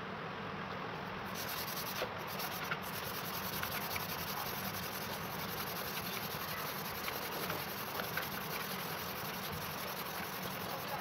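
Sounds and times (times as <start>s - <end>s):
knife blade being rubbed: 1.3s - 11.0s.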